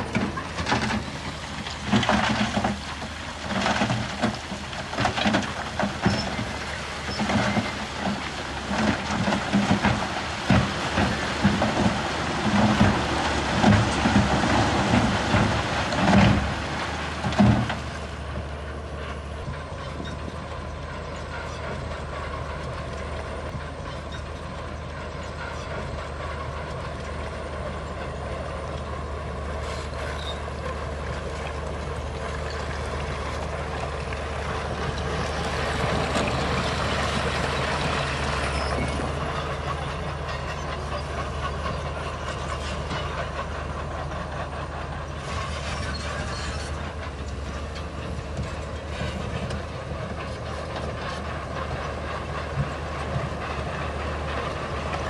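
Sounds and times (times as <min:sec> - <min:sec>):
diesel machinery engine running: 0:00.0 - 0:55.0.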